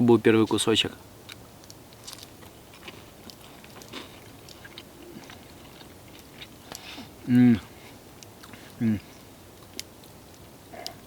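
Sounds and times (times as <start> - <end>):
man chewing: 2.0 - 11.0.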